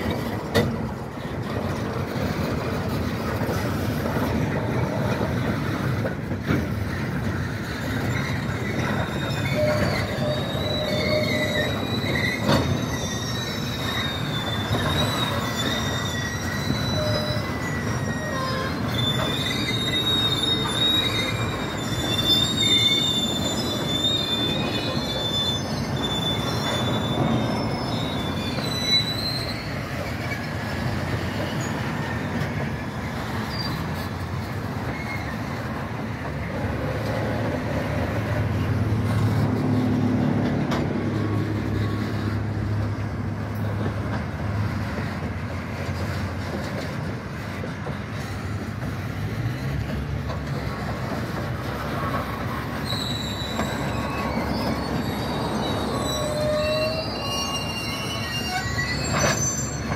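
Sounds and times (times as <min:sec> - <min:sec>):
train wheels rumbling on rails: 0:00.0 - 0:59.9
wheel squeals: 0:00.0 - 0:59.9.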